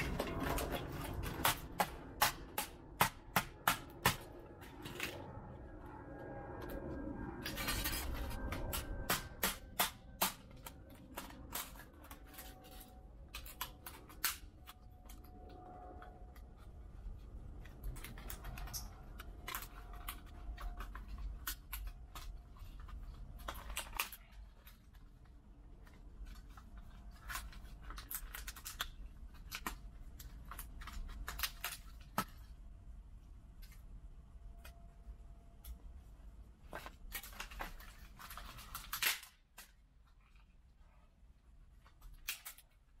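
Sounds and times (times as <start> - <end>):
plastic parts cracking and snapping: 0.0 - 5.3, 7.4 - 16.7, 17.5 - 32.6, 36.7 - 40.6, 41.8 - 43.0.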